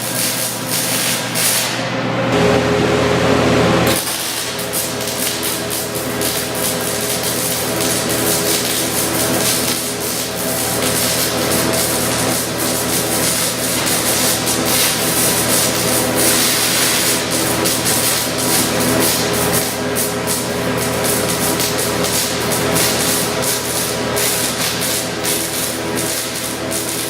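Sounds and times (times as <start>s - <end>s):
welding arc crackling hiss: 0.0s - 1.8s, 3.9s - 27.0s
welder electrical hum: 0.0s - 27.0s.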